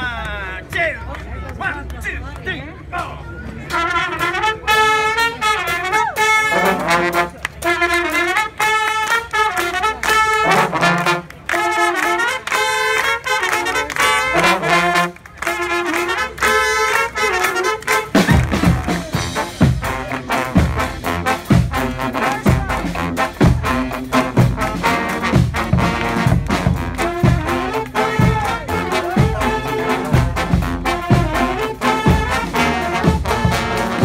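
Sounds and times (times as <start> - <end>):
brass band playing: 3.6 - 34.0.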